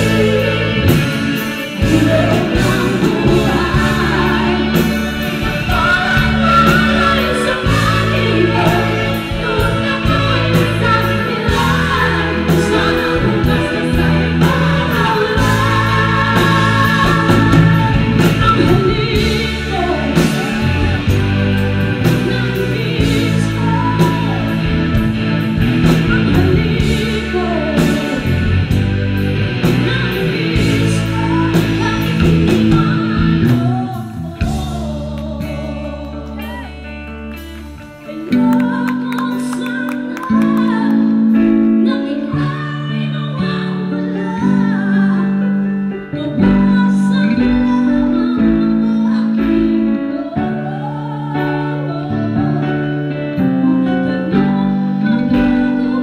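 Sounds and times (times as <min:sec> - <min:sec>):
rock band playing a ballad: 0:00.0 - 0:56.0
woman singing: 0:00.0 - 0:56.0.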